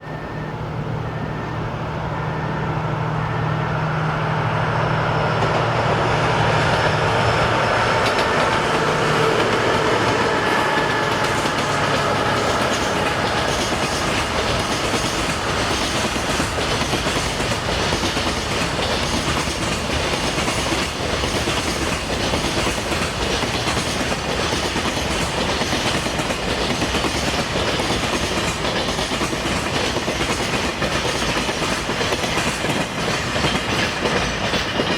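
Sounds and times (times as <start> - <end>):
freight wagons clicking over rail joints: 5.3 - 34.9.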